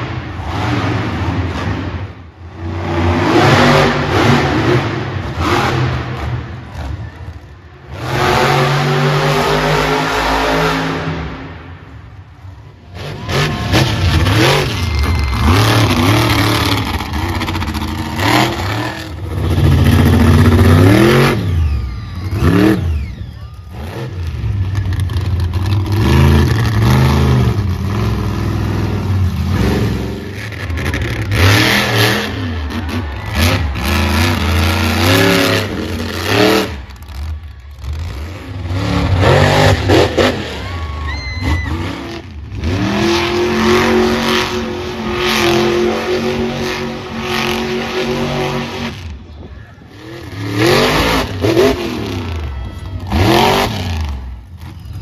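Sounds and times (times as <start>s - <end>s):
monster truck engines revving: 0.0s - 55.0s.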